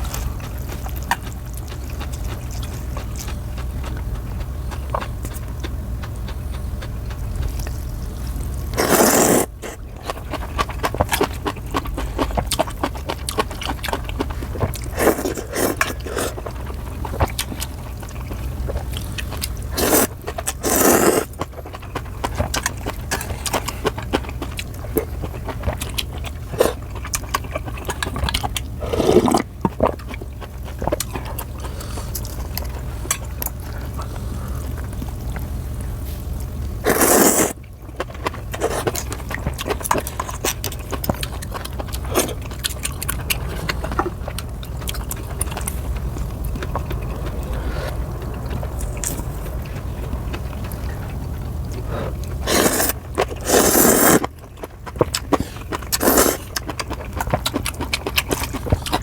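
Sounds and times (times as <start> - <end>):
noodles slurping: 0.0 - 34.8, 36.8 - 59.0
low steady hum: 0.0 - 59.0
wet chewing: 0.0 - 59.0.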